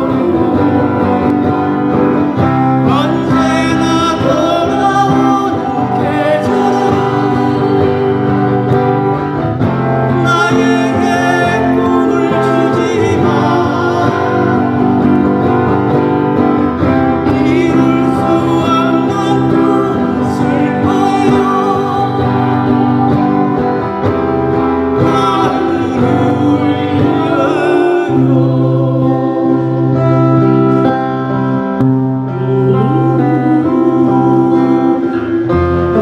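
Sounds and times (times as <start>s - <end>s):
guitar accompaniment: 0.0s - 36.0s
person singing with vibrato: 0.0s - 36.0s.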